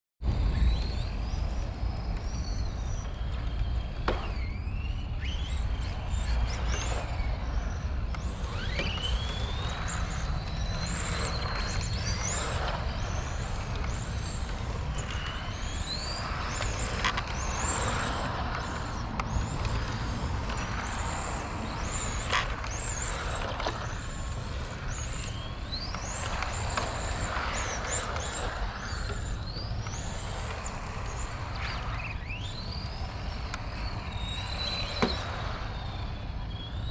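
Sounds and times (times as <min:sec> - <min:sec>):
electric motor high whine: 0:00.3 - 0:36.9.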